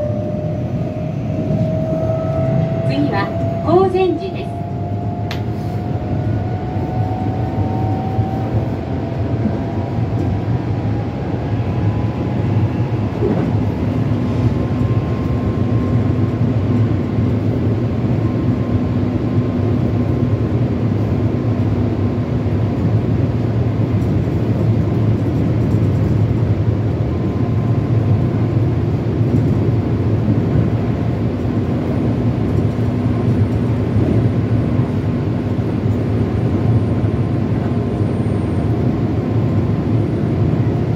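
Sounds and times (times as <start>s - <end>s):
train inverter whine: 0.0s - 40.9s
wheels rumbling on rail: 0.0s - 40.9s.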